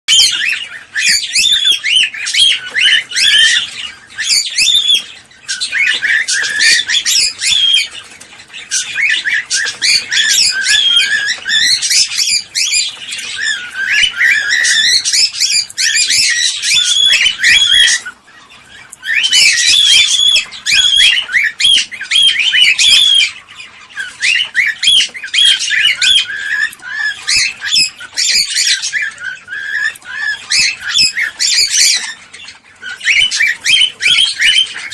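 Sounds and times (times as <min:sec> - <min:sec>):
cockatiel chirping and squawking: 0:00.1 - 0:34.9.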